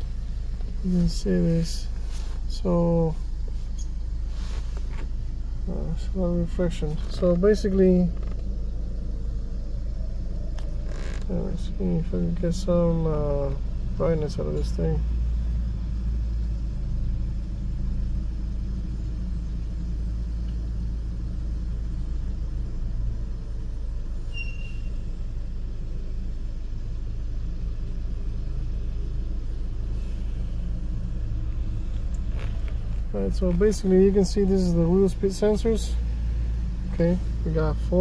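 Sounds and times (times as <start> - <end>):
car cabin engine rumble: 0.0 - 38.0.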